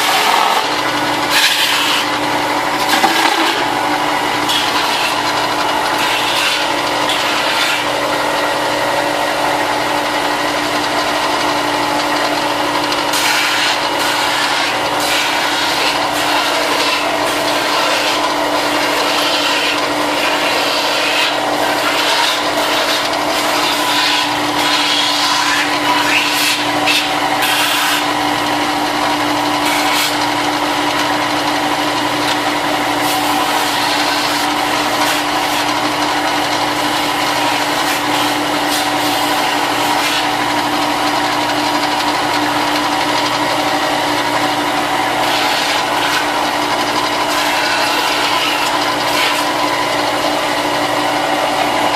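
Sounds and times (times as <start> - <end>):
electric sander grinding plastic: 0.0 - 51.9.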